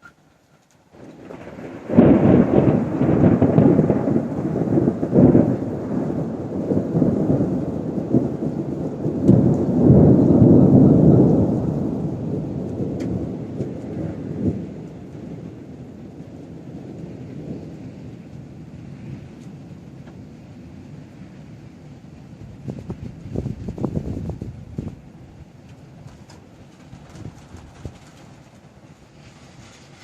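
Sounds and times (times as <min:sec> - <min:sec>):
steady rain: 0:00.0 - 0:30.0
thunder rumbling and clapping: 0:00.9 - 0:20.5, 0:22.3 - 0:29.2.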